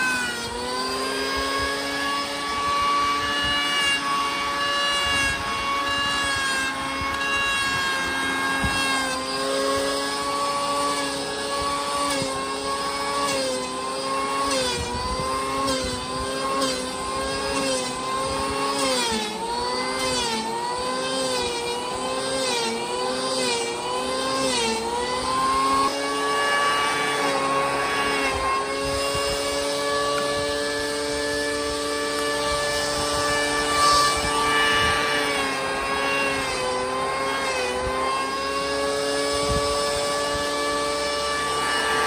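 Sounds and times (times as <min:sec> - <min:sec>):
electric planer motor whine: 0:00.0 - 0:42.0.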